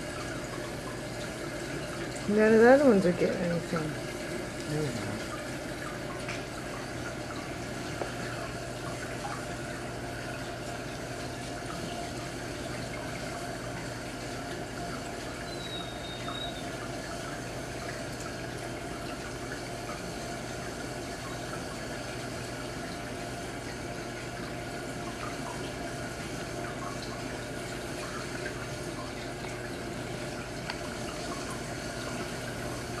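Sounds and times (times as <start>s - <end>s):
water running and splashing: 0.0s - 33.0s.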